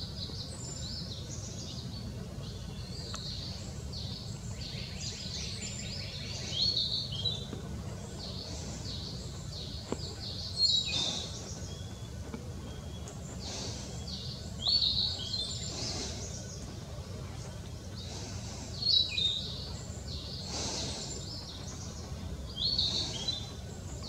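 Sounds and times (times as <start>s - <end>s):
low background rumble: 0.0s - 24.0s
songbird chirping: 0.0s - 24.0s.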